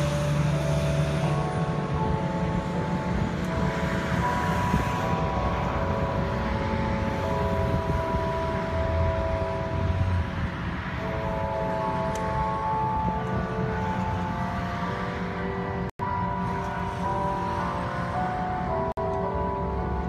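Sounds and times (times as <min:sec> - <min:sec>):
church bells ringing: 0:00.0 - 0:20.0
street traffic noise: 0:00.0 - 0:20.0.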